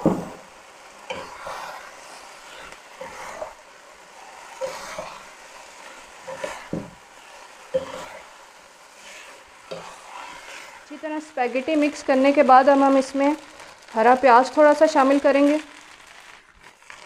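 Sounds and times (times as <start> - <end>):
food sizzling in wok: 0.0 - 17.0
spatulas scraping wok: 0.6 - 17.0.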